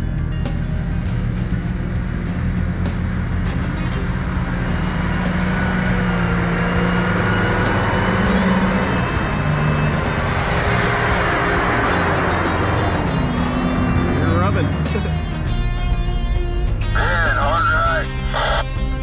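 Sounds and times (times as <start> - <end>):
background music: 0.0 - 19.0
off-road vehicle engine running: 0.0 - 19.0.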